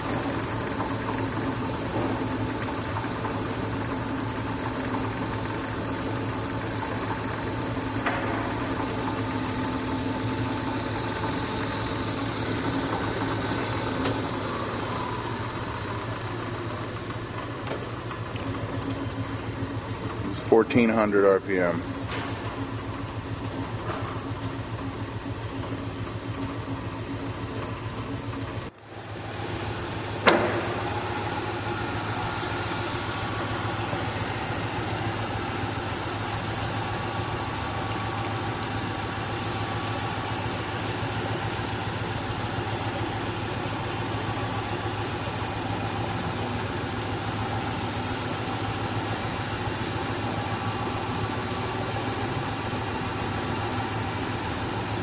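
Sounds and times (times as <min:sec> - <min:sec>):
lathe humming: 0:00.0 - 0:55.0.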